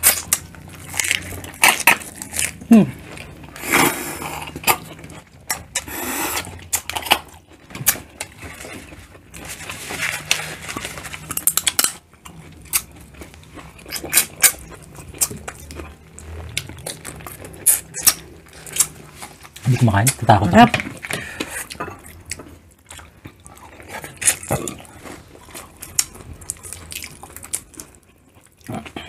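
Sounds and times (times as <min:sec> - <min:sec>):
chewing with mouth smacks: 0:00.0 - 0:29.0.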